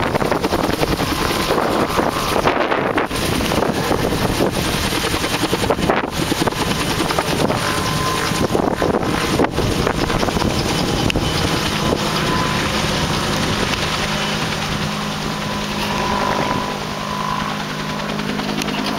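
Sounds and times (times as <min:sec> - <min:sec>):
engine hum: 0:00.0 - 0:18.9
helicopter rotor chop: 0:00.0 - 0:18.9
wind buffeting microphone: 0:00.0 - 0:18.9.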